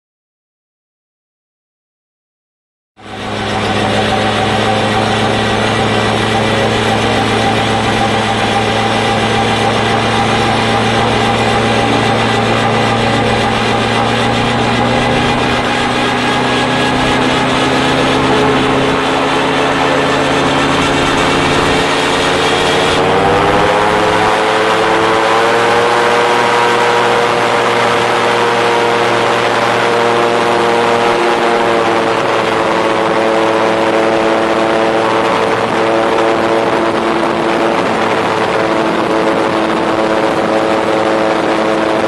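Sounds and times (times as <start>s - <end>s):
gyroplane engine running: 3.0s - 42.0s.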